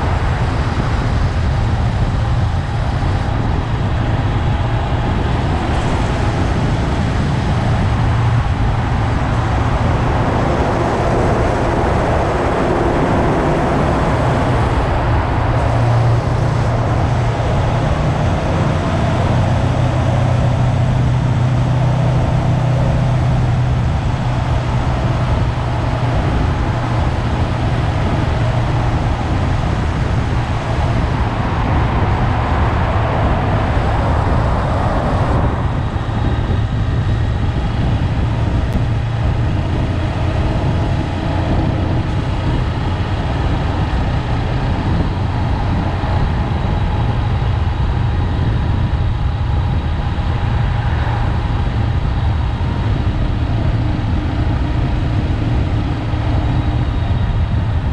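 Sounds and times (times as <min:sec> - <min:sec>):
rushing noise: 0:00.0 - 0:57.9
wind and road noise: 0:00.0 - 0:57.9.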